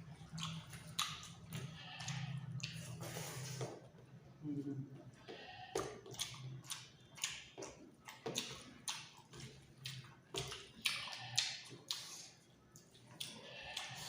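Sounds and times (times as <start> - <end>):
person chewing wetly: 0.0 - 3.8, 5.1 - 14.0.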